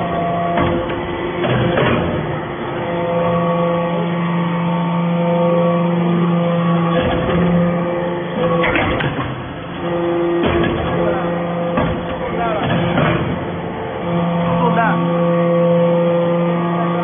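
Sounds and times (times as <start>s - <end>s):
hydraulic press motor hum: 0.0s - 17.0s.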